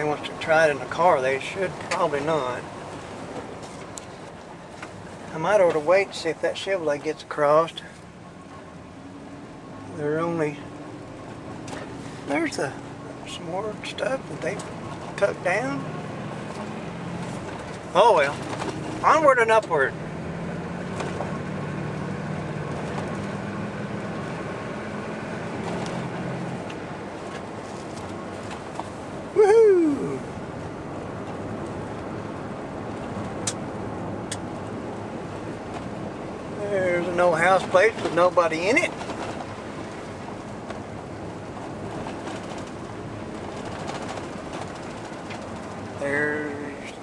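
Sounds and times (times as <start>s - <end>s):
truck engine hum: 0.0s - 47.0s
tyre and road noise: 0.0s - 47.0s.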